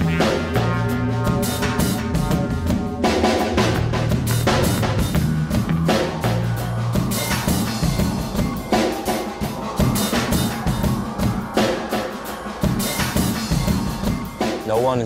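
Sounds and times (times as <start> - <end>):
music with drum beat and bass: 0.0 - 15.0.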